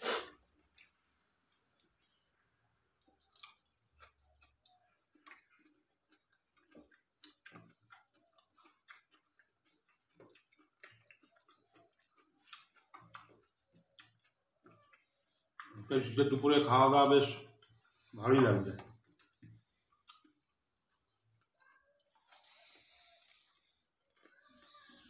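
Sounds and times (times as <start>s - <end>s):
people eating by hand: 0.0s - 25.0s.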